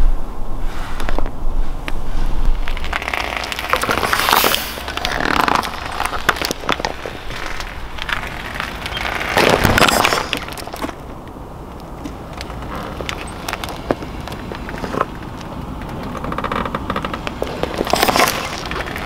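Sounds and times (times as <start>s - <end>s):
rubber toys crackling under tyre: 1.0s - 19.0s.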